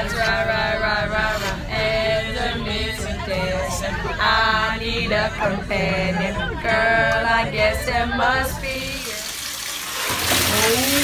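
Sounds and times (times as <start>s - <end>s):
music with voices singing: 0.0s - 9.5s.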